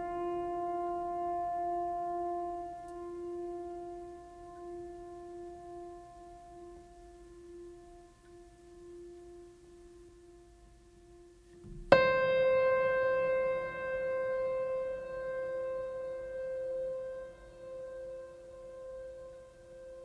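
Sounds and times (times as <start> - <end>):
piano-like note ringing: 0.0 - 20.0
soft held music tone: 0.0 - 20.0.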